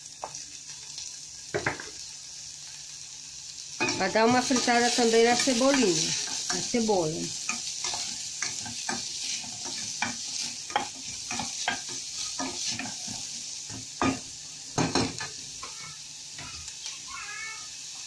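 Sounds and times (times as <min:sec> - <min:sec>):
onion sizzling in oil: 0:00.0 - 0:18.0.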